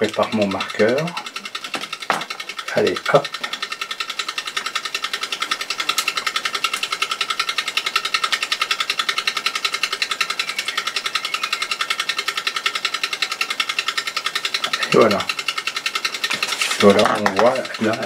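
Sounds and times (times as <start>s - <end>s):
constant hum: 0.0s - 18.0s
small electric machine pulsing: 0.0s - 18.0s.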